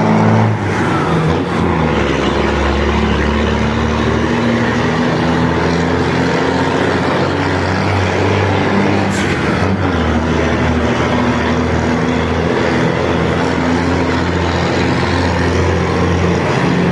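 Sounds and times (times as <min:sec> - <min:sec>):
diesel truck engine running: 0:00.0 - 0:16.9.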